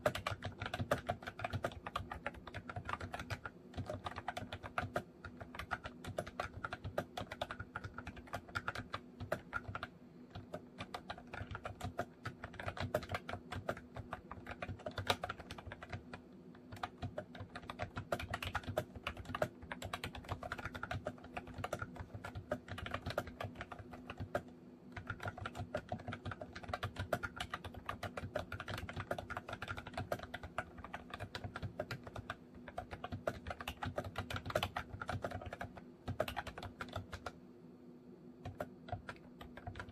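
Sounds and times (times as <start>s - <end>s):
keyboard typing clicks: 0.0s - 37.4s, 38.4s - 39.9s
faint steady hum: 0.0s - 39.9s.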